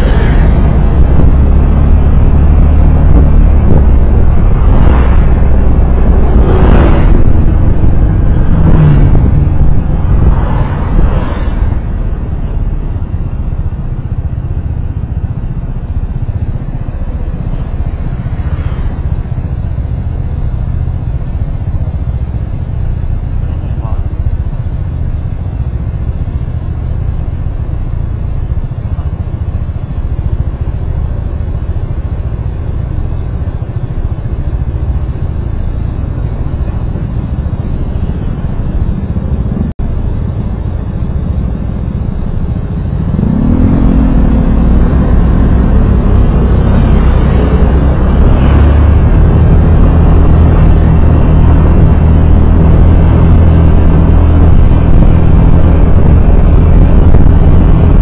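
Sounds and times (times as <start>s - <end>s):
road noise while driving: 0.0s - 58.0s
vehicle engine accelerating: 0.0s - 58.0s.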